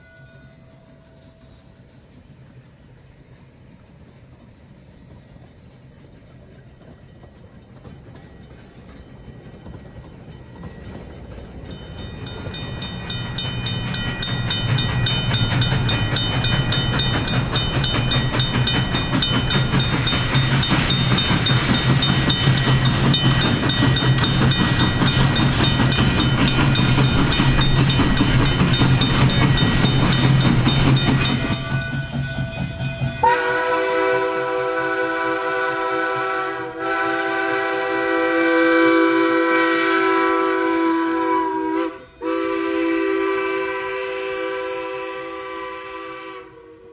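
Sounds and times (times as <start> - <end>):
rapid train clatter: 0.0 - 46.9
steam locomotive low hum: 0.0 - 46.9.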